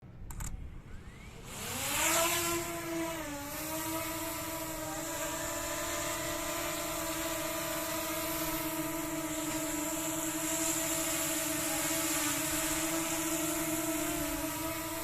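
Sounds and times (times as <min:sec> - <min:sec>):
drone propellers whining: 0:00.4 - 0:15.0.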